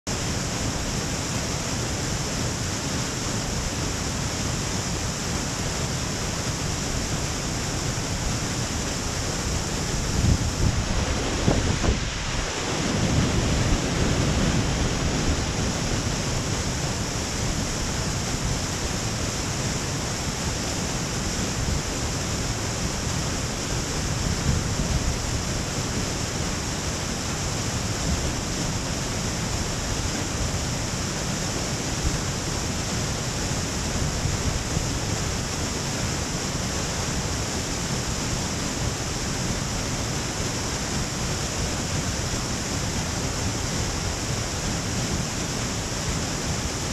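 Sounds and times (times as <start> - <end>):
waterfall rushing: 0.1 - 46.9.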